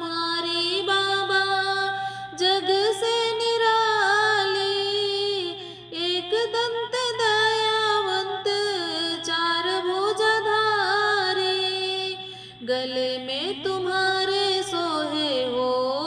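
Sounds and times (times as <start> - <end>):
solo voice singing devotional song: 0.0 - 16.0.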